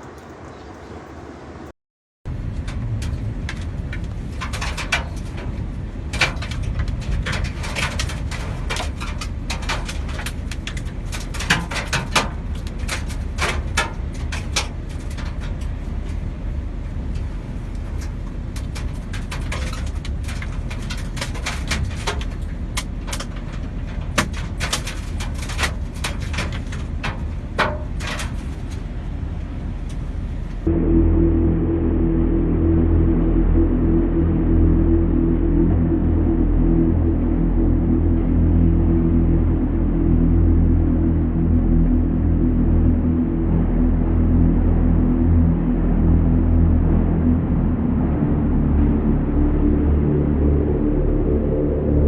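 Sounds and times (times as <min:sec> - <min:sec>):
strong wind rumbling on microphone: 0:02.3 - 0:52.0.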